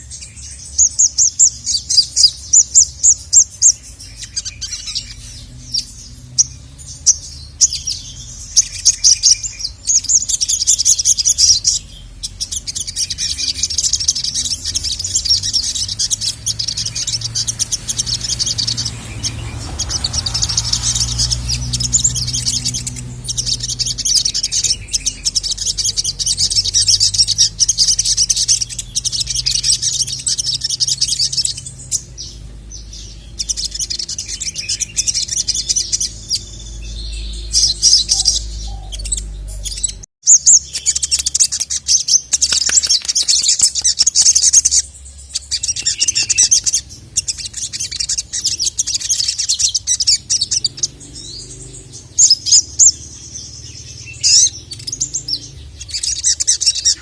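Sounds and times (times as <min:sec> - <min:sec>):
bird high chattering song: 0:00.0 - 0:57.0.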